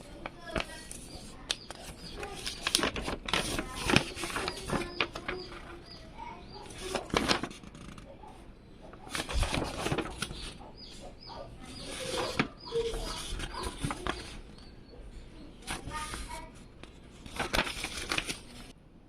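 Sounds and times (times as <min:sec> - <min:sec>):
rustling: 0:00.1 - 0:06.0, 0:06.6 - 0:14.7, 0:15.6 - 0:18.7.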